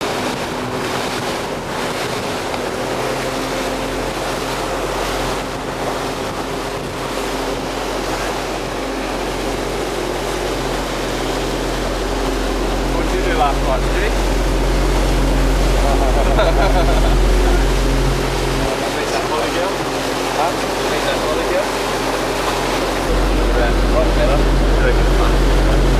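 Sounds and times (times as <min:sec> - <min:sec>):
boat engine hum: 0:00.0 - 0:25.9
rush of wind and water: 0:00.0 - 0:25.9.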